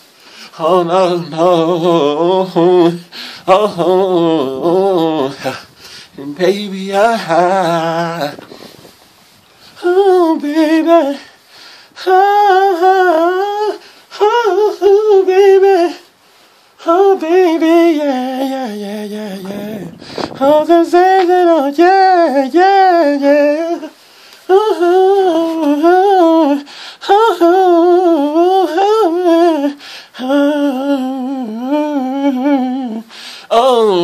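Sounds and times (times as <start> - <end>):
man singing vocal runs: 0.5 - 8.9, 9.6 - 11.4, 12.0 - 16.2, 16.8 - 34.0.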